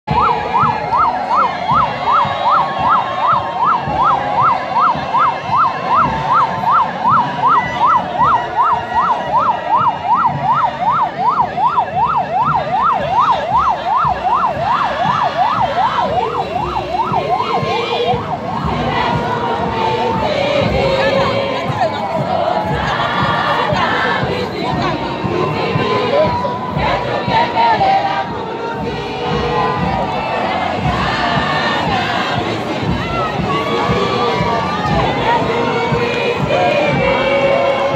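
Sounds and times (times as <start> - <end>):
siren yelping: 0.1 - 37.9.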